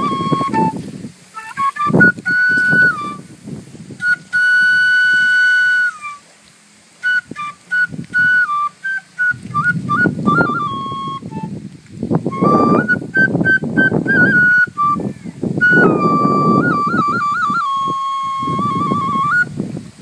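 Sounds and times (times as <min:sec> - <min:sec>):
high whistling melody: 0:00.0 - 0:06.3, 0:07.0 - 0:11.6, 0:12.2 - 0:19.6
low noise bursts: 0:00.0 - 0:20.0.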